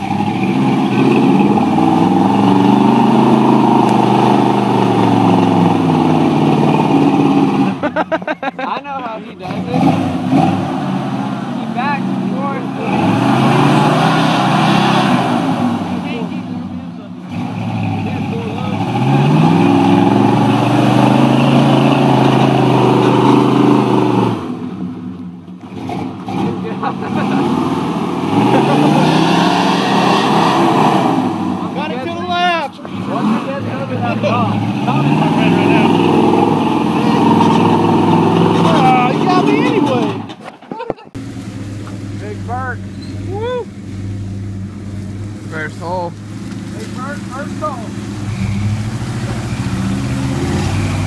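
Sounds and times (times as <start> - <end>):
truck engine revving: 0.0 - 51.0.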